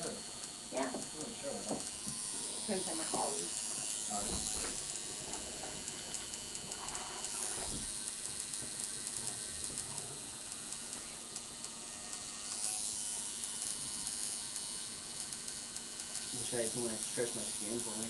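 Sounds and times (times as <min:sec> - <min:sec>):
tattoo machine buzzing: 0:00.0 - 0:18.0.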